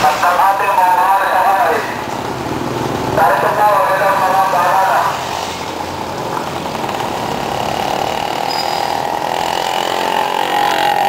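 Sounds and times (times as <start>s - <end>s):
fire truck engine rumble: 0.0s - 11.0s
traffic noise: 0.0s - 11.0s.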